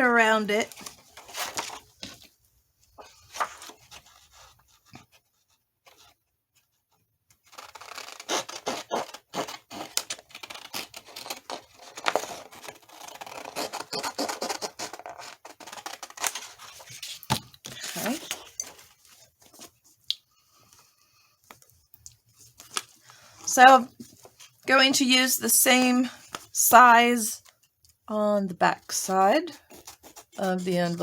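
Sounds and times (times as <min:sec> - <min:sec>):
paper rustling: 0:00.6 - 0:24.7, 0:28.9 - 0:31.0.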